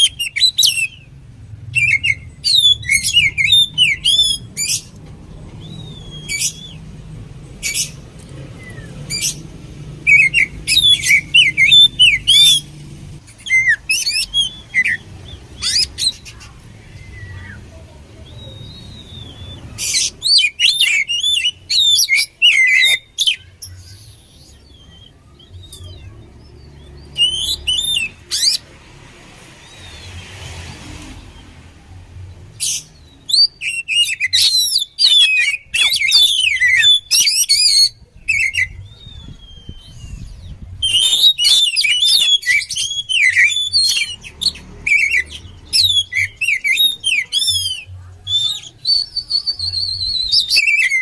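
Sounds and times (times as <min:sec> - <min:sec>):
magpie-robin singing: 0:00.0 - 0:51.0.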